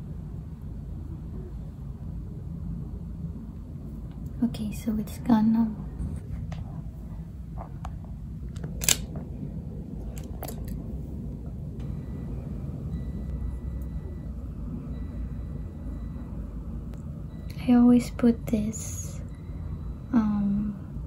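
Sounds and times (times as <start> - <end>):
faint high whine: 0.0 - 21.0
low room hum: 0.0 - 21.0.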